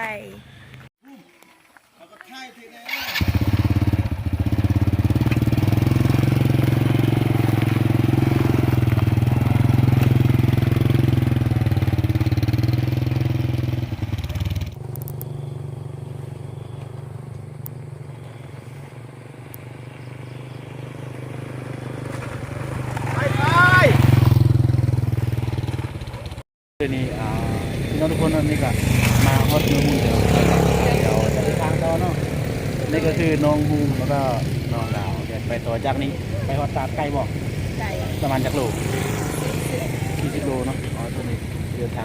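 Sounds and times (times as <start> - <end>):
vehicle engine running: 3.1 - 42.0.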